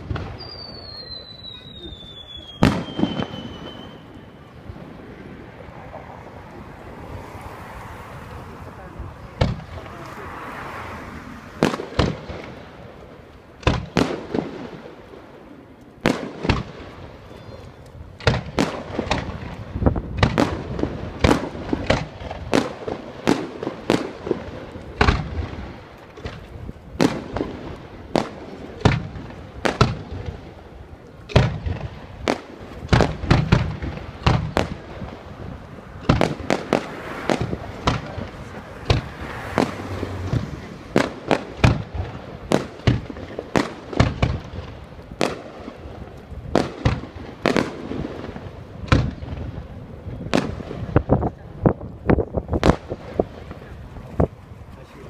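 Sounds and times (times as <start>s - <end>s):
fireworks booming: 0.0s - 54.4s.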